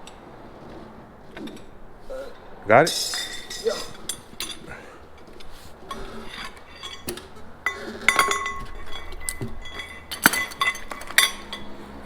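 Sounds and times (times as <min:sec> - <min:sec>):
metal tools clanking: 0:00.0 - 0:12.0.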